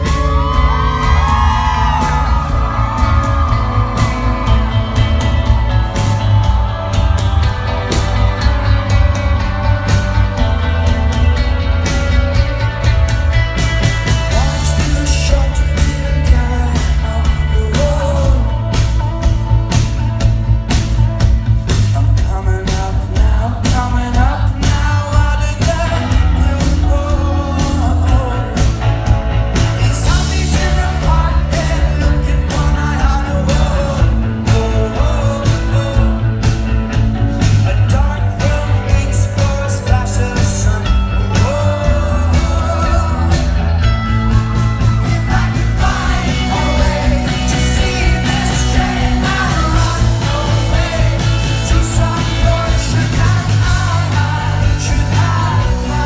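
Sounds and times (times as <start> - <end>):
man singing: 0.0 - 12.8, 13.9 - 19.8, 21.7 - 56.0
bass: 0.0 - 56.0
drums: 0.0 - 56.0
guitars: 0.0 - 56.0.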